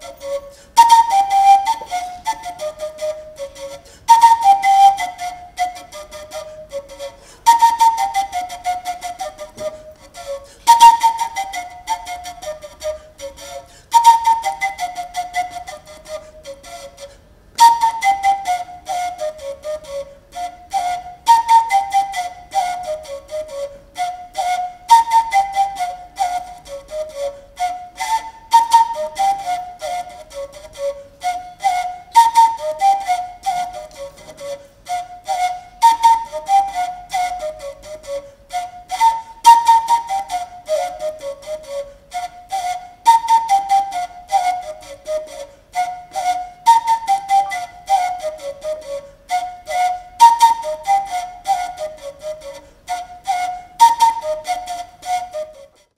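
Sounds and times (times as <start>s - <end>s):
end-blown flute melody: 0.0s - 55.9s.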